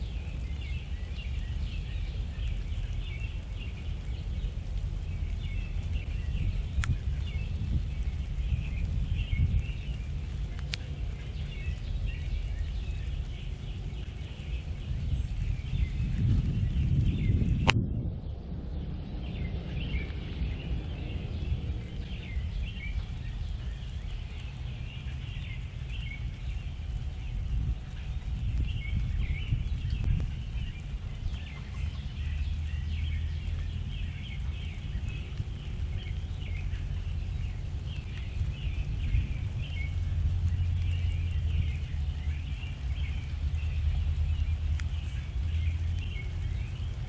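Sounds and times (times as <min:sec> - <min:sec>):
low background rumble: 0:00.0 - 0:47.0
small songbirds chirping: 0:00.0 - 0:47.0.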